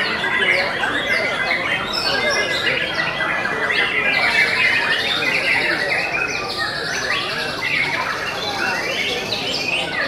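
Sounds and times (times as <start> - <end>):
birds singing whistles and chirps: 0.0 - 10.0.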